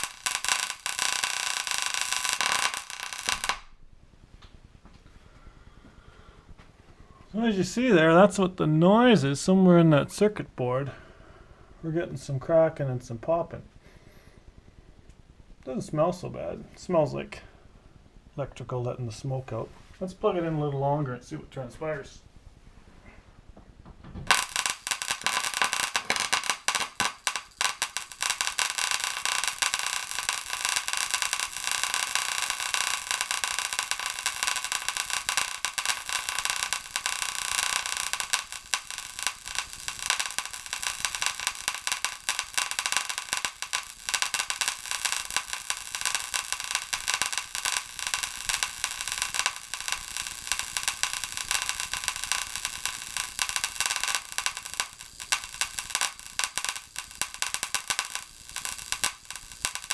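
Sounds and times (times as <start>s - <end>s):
amplifier board crackling and popping: 0.0s - 11.0s, 12.1s - 59.9s.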